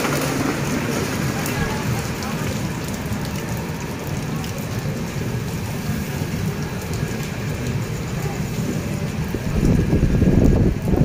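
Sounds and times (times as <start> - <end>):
heavy rain hissing: 0.0 - 11.0
train rumbling: 0.0 - 11.0.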